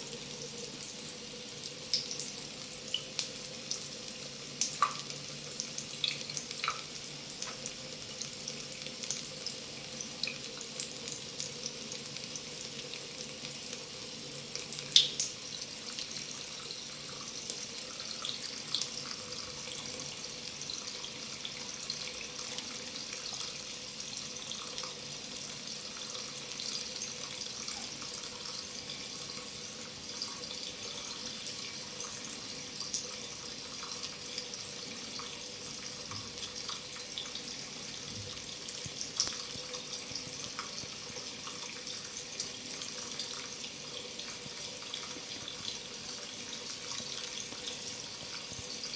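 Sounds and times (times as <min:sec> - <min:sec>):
tap water running into sink: 0:00.0 - 0:48.9
water splashes and drips: 0:01.6 - 0:29.5, 0:30.2 - 0:48.9.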